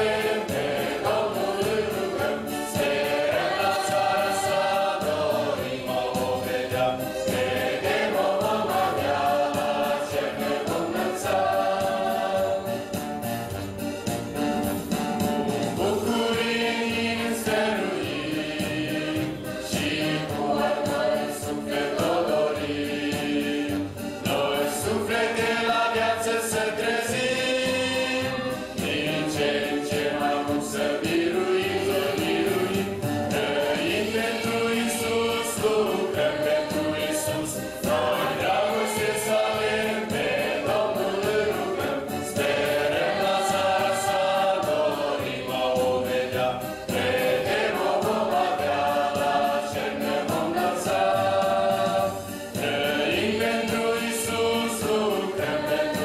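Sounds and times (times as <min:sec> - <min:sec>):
choir singing a hymn: 0:00.0 - 0:13.6, 0:14.4 - 0:56.0.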